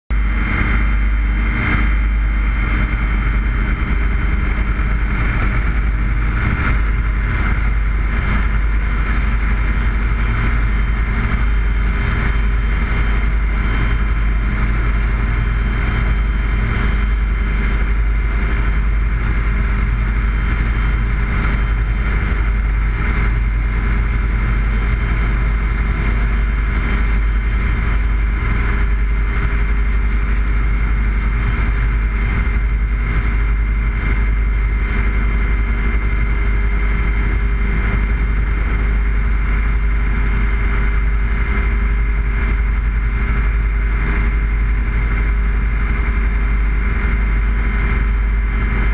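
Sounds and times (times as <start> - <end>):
engine running steadily: 0.1 - 48.9.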